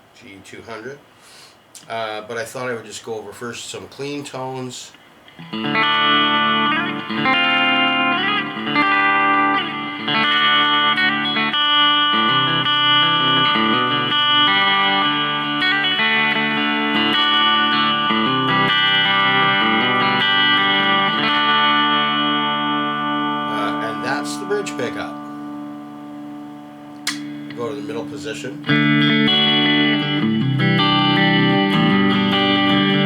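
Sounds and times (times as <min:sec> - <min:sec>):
clean electric guitar chords: 0:05.3 - 0:33.0.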